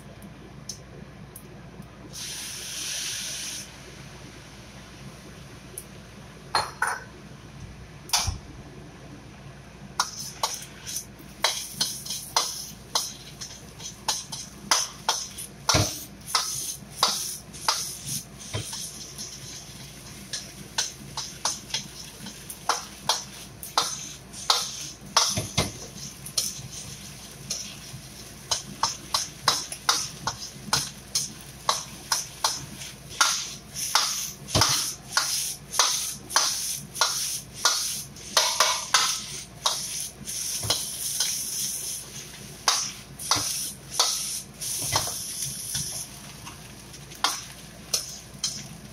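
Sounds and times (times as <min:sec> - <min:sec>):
faint sizzle: 0:00.0 - 0:48.9.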